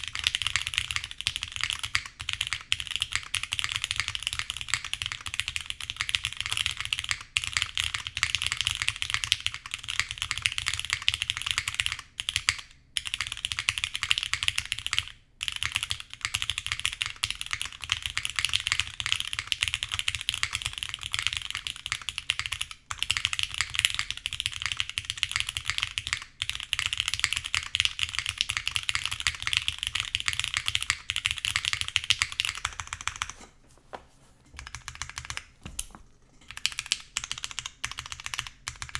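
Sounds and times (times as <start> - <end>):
fast mechanical keyboard typing: 0.0 - 33.4, 34.6 - 38.9.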